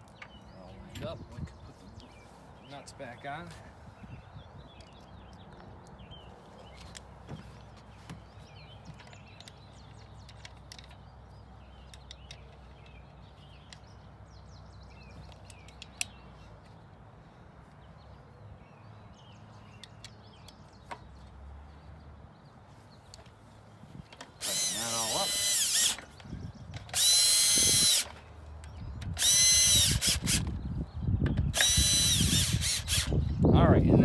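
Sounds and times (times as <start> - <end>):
birds chirping: 0.0 - 34.0
low steady outdoor hum: 0.0 - 34.0.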